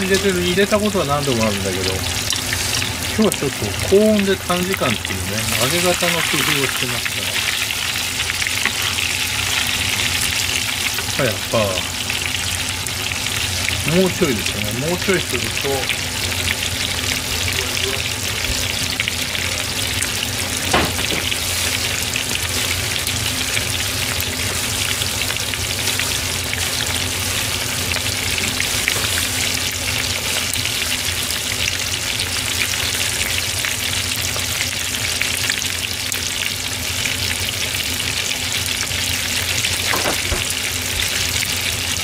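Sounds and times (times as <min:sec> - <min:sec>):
chicken deep-frying in hot oil: 0:00.0 - 0:42.0.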